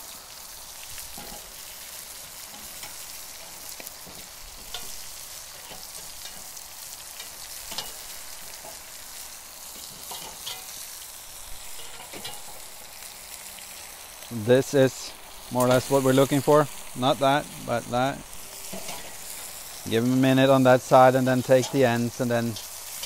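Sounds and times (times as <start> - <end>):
meat and onions sizzling: 0.0 - 23.0.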